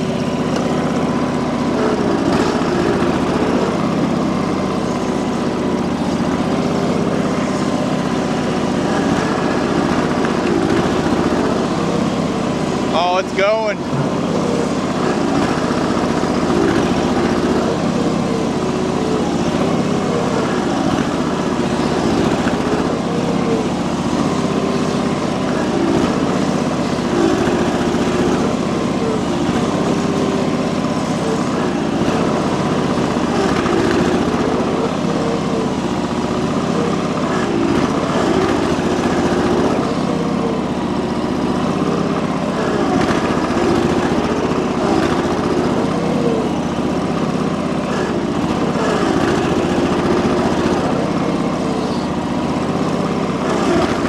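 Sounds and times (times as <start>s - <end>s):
garden tractor engine under load: 0.0s - 54.0s.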